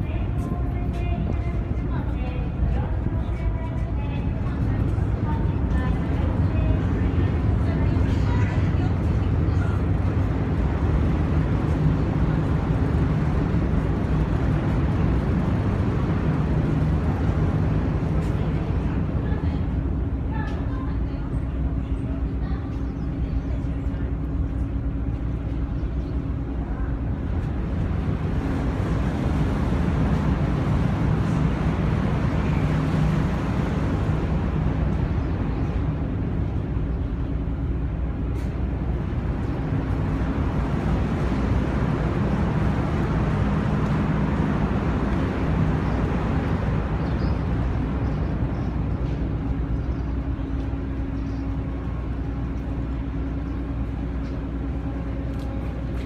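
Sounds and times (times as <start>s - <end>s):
constant rushing noise: 0.0s - 56.0s
low engine drone: 0.0s - 56.0s.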